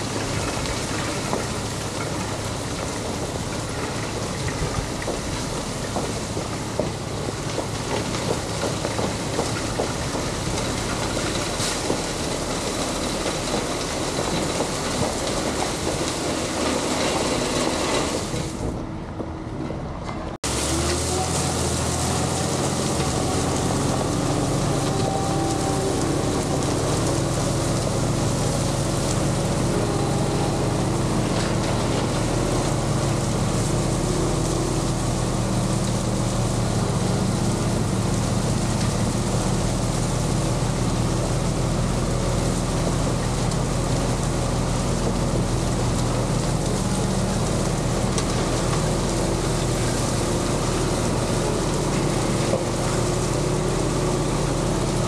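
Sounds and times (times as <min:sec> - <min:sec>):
gravel rattle and rumble: 0:00.0 - 0:55.0
heavy equipment engine running: 0:00.0 - 0:55.0.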